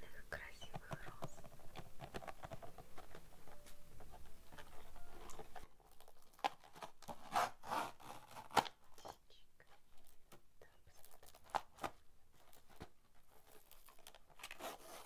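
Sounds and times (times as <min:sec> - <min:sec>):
ribbon crinkling and rustling: 0:01.2 - 0:07.3, 0:08.0 - 0:15.0.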